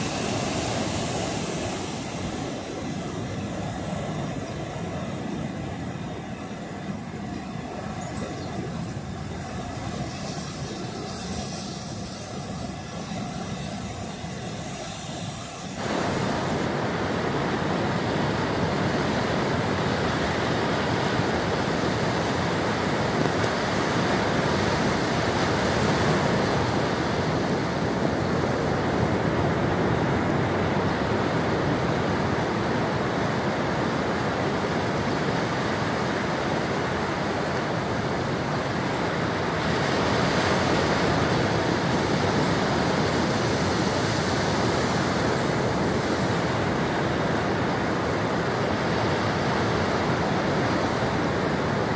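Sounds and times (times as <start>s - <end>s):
waves breaking on sandy beach: 0.0s - 51.9s.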